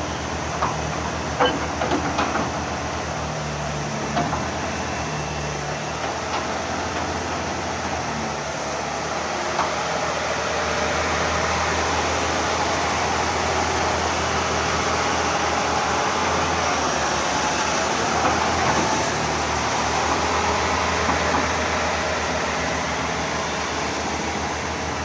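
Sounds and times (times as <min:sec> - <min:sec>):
dense machine noise: 0:00.0 - 0:25.0
diesel engine droning: 0:00.0 - 0:25.0.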